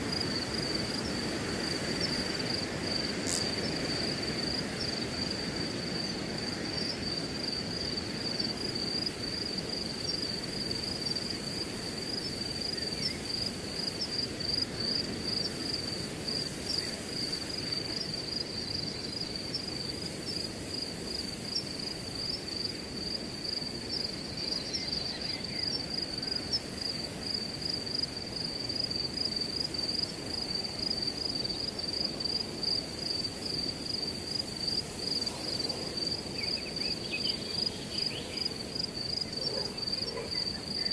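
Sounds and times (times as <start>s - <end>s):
crickets chirping: 0.0s - 40.9s
wind blowing through grass: 0.0s - 40.9s.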